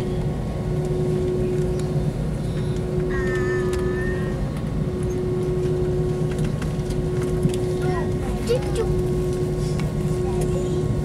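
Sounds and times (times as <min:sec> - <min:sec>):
jet engines humming: 0:00.0 - 0:11.0
low cabin rumble: 0:00.0 - 0:11.0.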